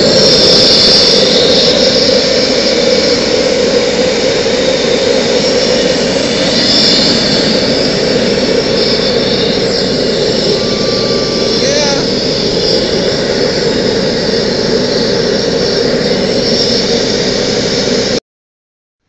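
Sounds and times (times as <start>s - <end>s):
gas burner roaring: 0.0s - 18.2s.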